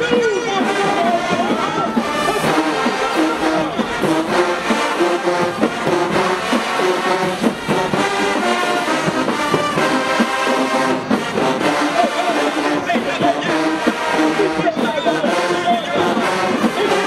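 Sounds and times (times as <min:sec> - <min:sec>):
brass section playing melody: 0:00.0 - 0:17.0
drums: 0:00.0 - 0:17.0.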